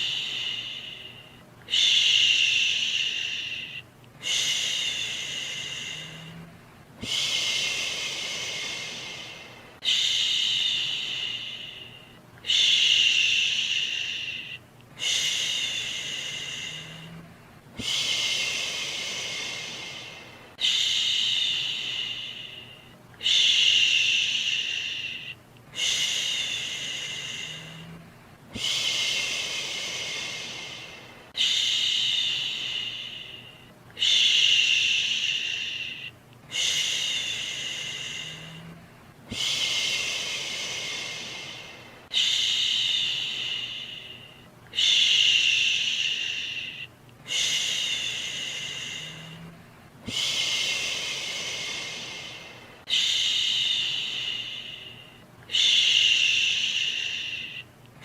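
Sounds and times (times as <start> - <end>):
person shushing: 0.0 - 57.7
faint steady hiss: 0.0 - 58.0.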